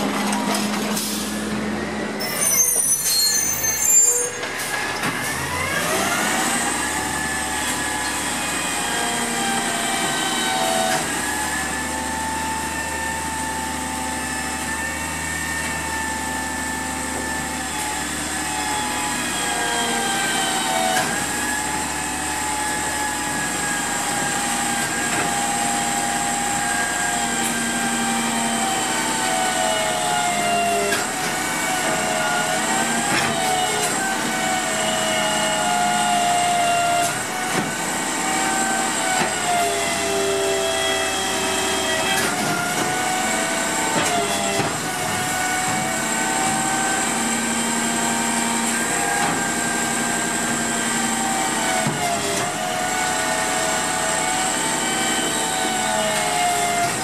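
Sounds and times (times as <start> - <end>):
hydraulic whine: 0.0 - 57.0.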